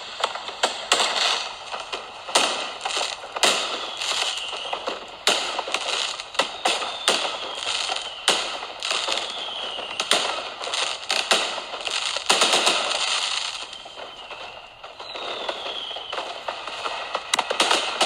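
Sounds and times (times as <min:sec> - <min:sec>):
crackling fizz: 0:00.0 - 0:18.0
falling whistles of rockets: 0:00.0 - 0:18.0
firework bangs: 0:00.0 - 0:18.0.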